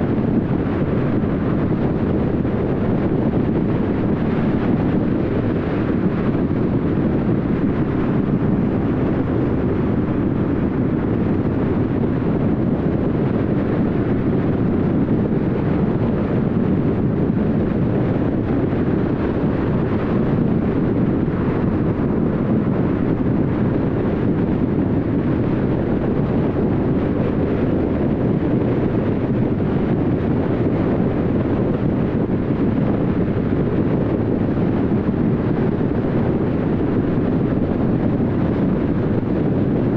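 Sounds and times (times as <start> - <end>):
car tyre and wind road noise: 0.0 - 39.9.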